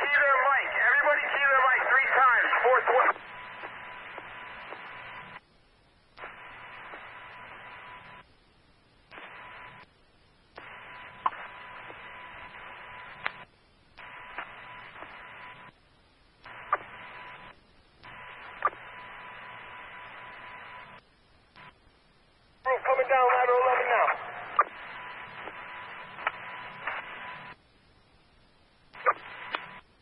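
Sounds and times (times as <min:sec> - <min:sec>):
radio mic click: 0:00.0 - 0:05.4, 0:06.2 - 0:08.3, 0:09.1 - 0:09.9, 0:10.5 - 0:15.8, 0:16.4 - 0:21.8, 0:22.6 - 0:27.6, 0:28.9 - 0:29.9
radio static hiss with tone: 0:00.0 - 0:30.0.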